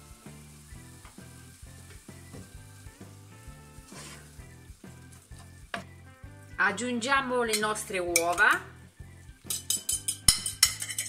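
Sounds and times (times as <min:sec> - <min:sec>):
music with a steady beat: 0:00.0 - 0:06.6, 0:08.2 - 0:11.0
spinach sizzling in a pan: 0:00.0 - 0:11.0.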